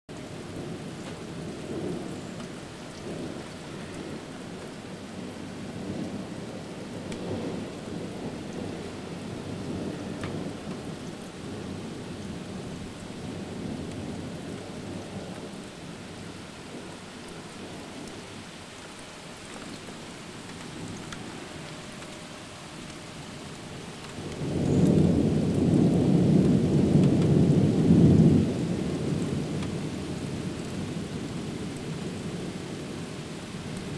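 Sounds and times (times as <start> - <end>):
steady rainfall: 0.1 - 33.9
thunder rumbling: 0.2 - 33.9.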